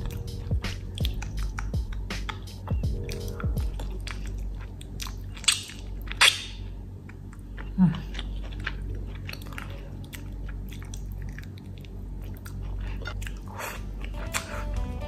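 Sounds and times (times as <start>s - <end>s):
chewing crunchy food: 0.0s - 14.9s.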